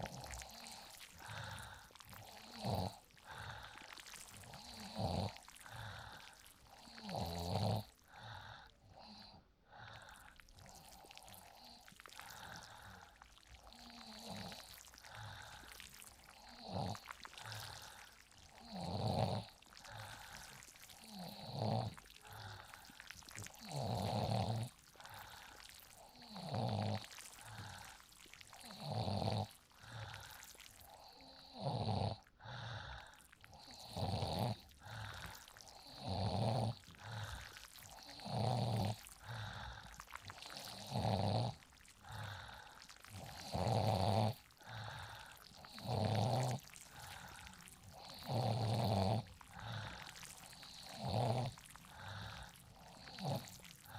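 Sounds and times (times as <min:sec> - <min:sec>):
person snoring: 0:00.0 - 0:53.9.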